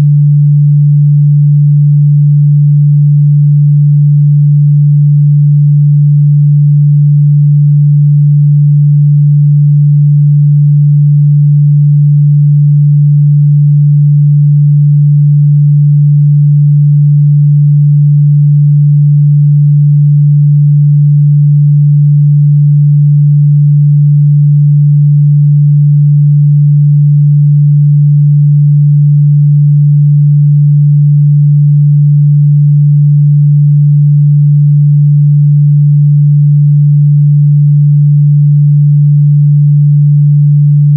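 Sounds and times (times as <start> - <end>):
sine wave test tone: 0.0 - 40.9.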